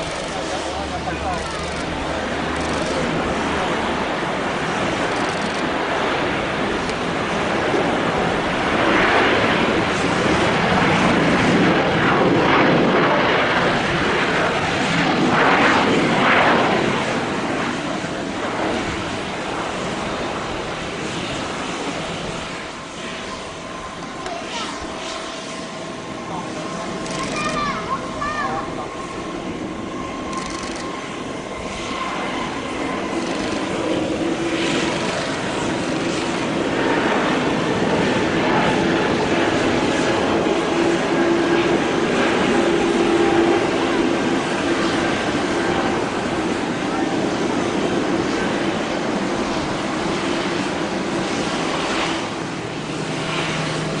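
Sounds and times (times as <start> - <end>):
jet engine rushing: 0.0 - 54.0.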